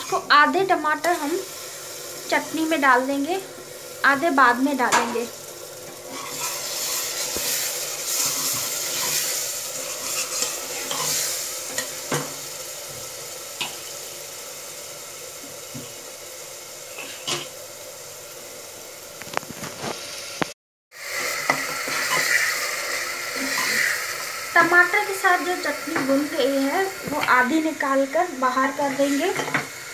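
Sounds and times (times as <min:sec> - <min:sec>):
food sizzling in hot oil: 0:00.0 - 0:29.9.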